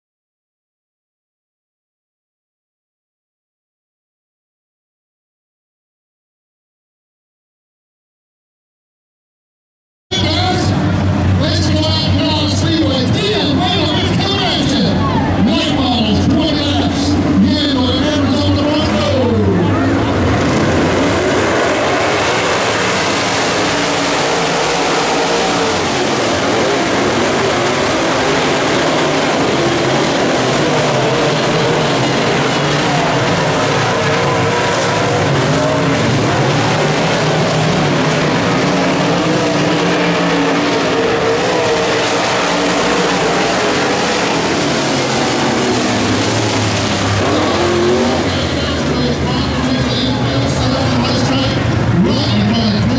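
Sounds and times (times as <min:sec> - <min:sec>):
race car engines roaring: 0:10.1 - 0:52.9.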